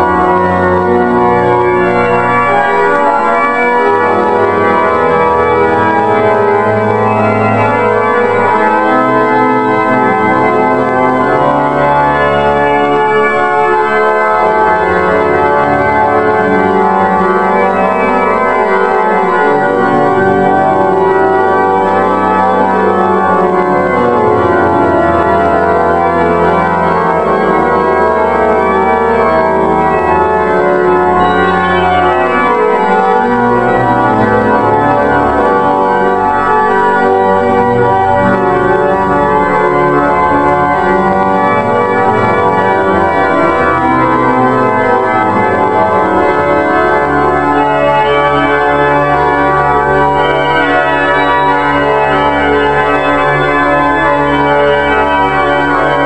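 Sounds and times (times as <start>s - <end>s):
church pipe organ playing: 0.0s - 56.0s.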